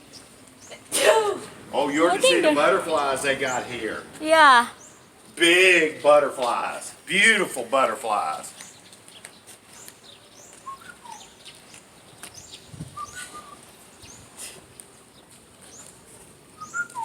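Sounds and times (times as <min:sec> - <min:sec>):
small birds chirping: 0:00.0 - 0:00.9, 0:01.8 - 0:17.0
faint background hiss: 0:00.0 - 0:17.0.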